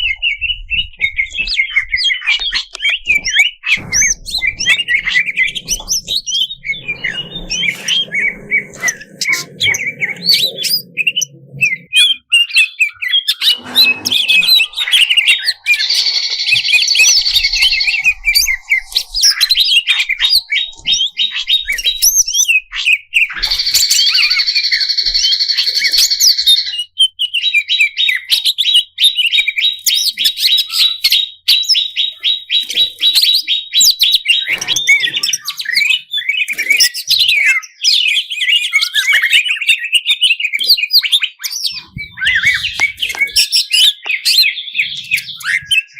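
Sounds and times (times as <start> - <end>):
bird singing chirps and trills: 0.0 - 45.9.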